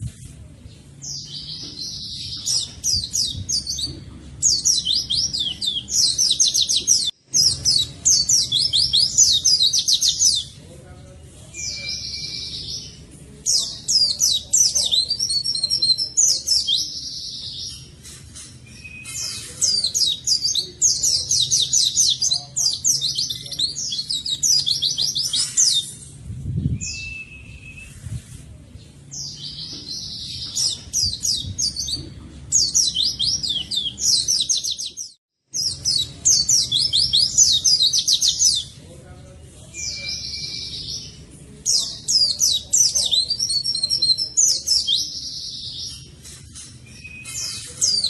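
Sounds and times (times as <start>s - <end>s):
bird singing rapid chirps: 1.0s - 10.6s, 11.5s - 17.9s, 18.7s - 26.0s, 29.2s - 38.8s, 39.8s - 46.1s.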